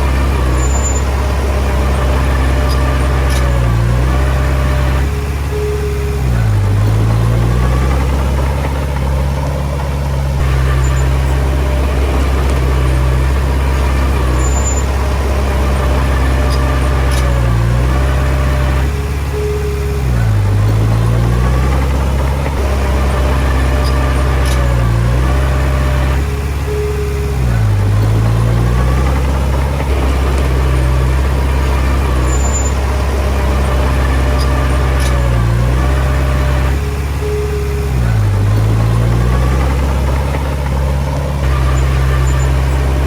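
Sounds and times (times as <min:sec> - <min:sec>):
bulldozer diesel engine running: 0:00.0 - 0:43.0.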